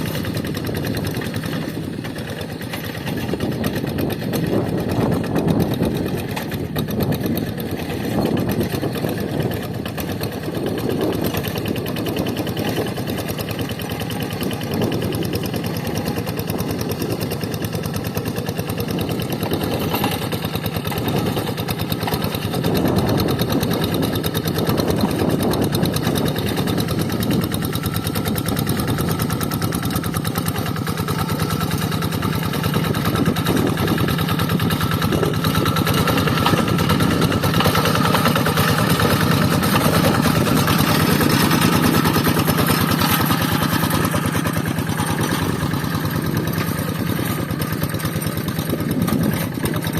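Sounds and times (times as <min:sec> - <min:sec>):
diesel engine chugging: 0:00.0 - 0:49.9.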